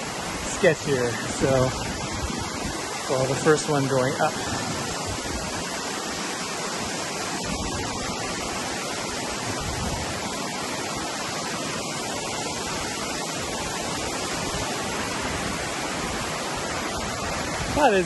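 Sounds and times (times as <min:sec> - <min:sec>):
stream tumbling over rocks: 0:00.0 - 0:18.0
waterfall rushing: 0:00.0 - 0:18.0.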